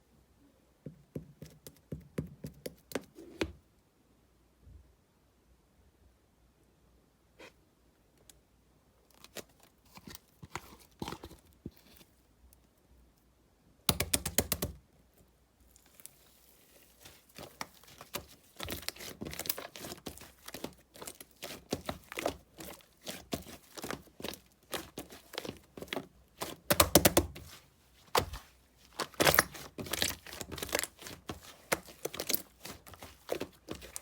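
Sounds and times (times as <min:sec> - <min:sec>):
hands working modelling clay: 0:00.7 - 0:03.7, 0:09.0 - 0:34.0.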